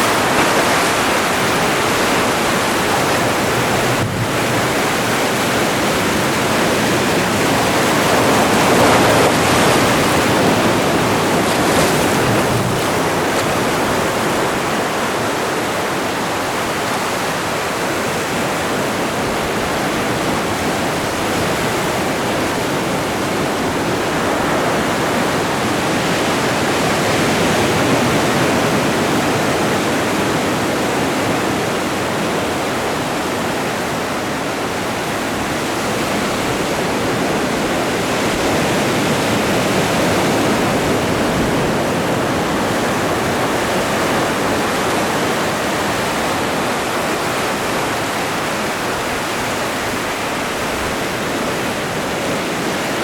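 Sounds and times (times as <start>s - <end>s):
waves breaking on rocky shore: 0.0s - 53.0s.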